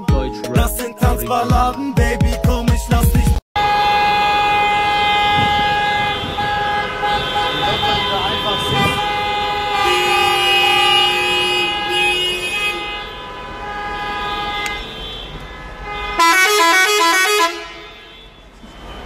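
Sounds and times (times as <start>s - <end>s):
musical car horn: 3.6s - 19.0s.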